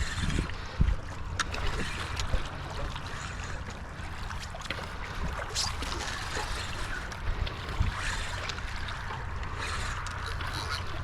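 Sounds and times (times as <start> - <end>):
water at shoreline: 0.0 - 11.0
wind: 0.0 - 11.0.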